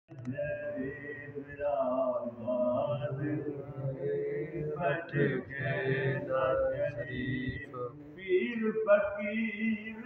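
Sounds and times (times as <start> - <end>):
man singing devotional song: 0.1 - 10.0.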